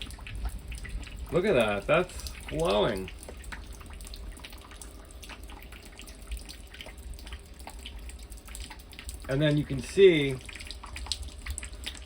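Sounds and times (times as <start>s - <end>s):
water drips and splashes: 0.0s - 12.0s
water trickling through a leak: 0.0s - 12.0s.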